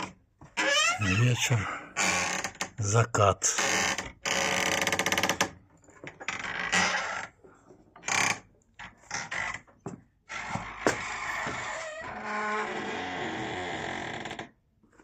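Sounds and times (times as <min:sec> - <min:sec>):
door creaking on hinges: 0:00.0 - 0:07.4, 0:08.0 - 0:14.6.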